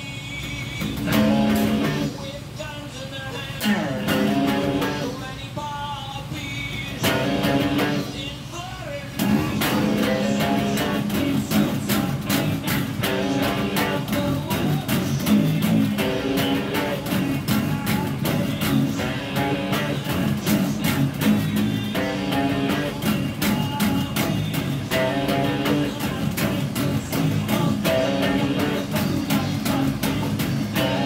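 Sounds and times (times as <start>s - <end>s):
electric bass guitar riff: 0.8s - 2.2s, 3.6s - 5.2s, 6.9s - 8.2s, 9.2s - 31.0s.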